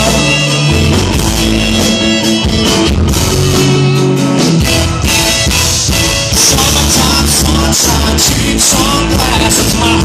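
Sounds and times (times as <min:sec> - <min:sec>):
bass notes: 0:00.0 - 0:10.0
drum kit with cymbals: 0:00.0 - 0:10.0
electric guitar: 0:00.0 - 0:10.0.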